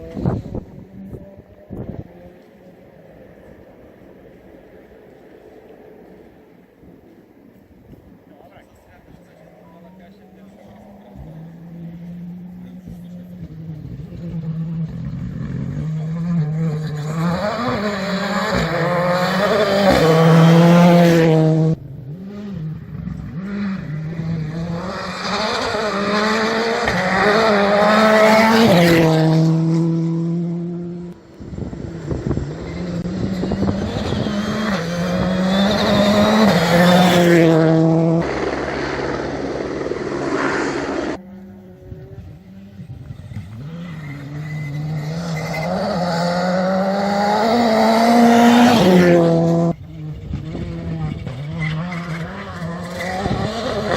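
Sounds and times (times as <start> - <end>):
rally car engines revving: 0.0 - 5.5, 6.2 - 53.9.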